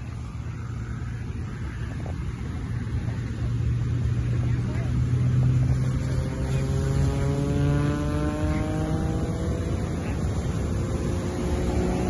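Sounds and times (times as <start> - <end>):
propeller airplane flying past: 0.0 - 12.0.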